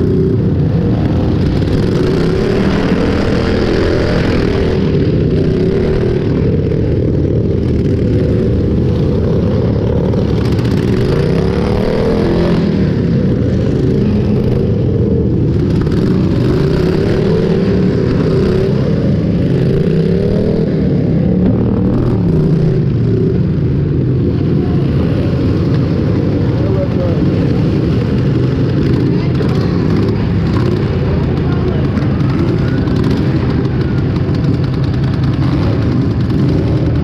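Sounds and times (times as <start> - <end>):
lawn-tractor engines revving: 0.0 - 37.0.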